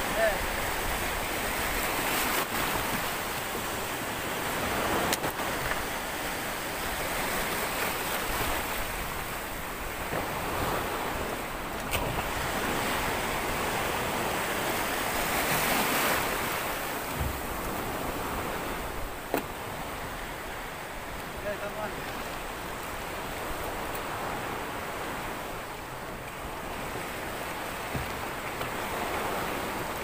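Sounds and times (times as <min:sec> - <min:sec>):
surf washing around boat: 0:00.0 - 0:30.0.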